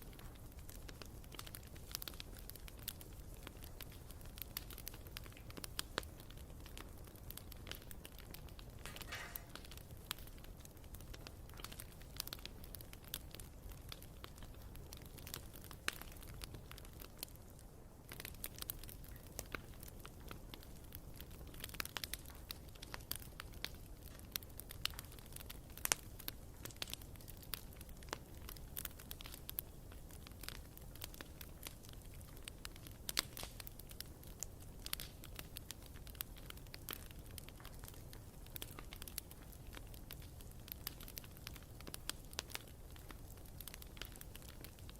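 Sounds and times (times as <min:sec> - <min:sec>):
bonfire crackling and popping: 0:00.0 - 0:44.9
low rumble of flames: 0:00.0 - 0:44.9.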